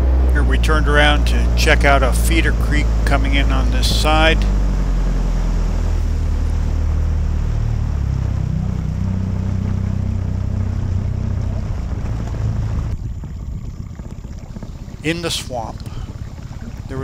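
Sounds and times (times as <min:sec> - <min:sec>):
outboard motor humming: 0:00.0 - 0:17.0
water rushing: 0:00.0 - 0:17.0
wind: 0:00.0 - 0:17.0.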